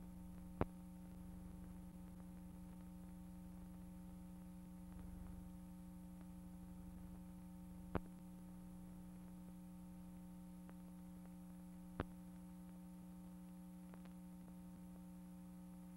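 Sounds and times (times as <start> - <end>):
faint electrical hum: 0.0 - 15.9.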